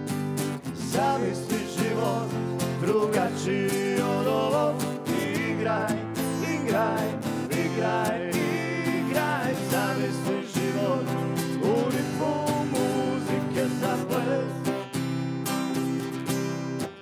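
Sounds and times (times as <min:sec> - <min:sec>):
acoustic guitars strummed: 0:00.0 - 0:17.0
man singing: 0:00.7 - 0:14.8.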